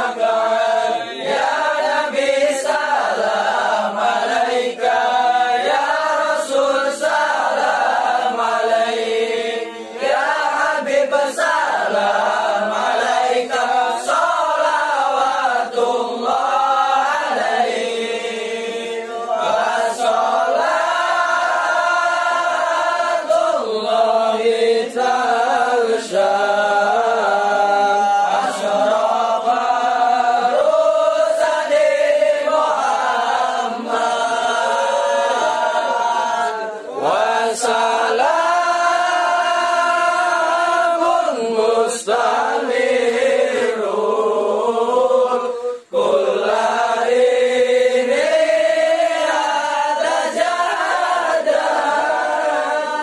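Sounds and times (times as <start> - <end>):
group of men chanting: 0.0 - 53.0.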